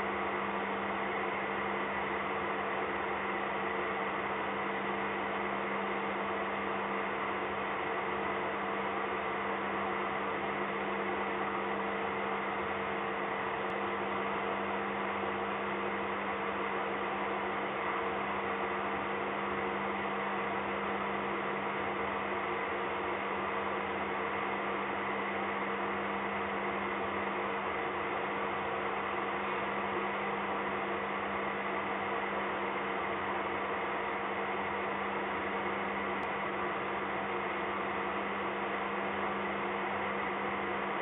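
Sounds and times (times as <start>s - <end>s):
steady hum with held tones: 0.0s - 41.0s.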